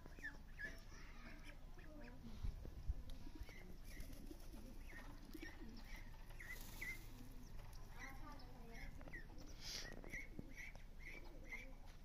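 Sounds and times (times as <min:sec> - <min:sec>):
poultry chirping: 0:00.0 - 0:12.0.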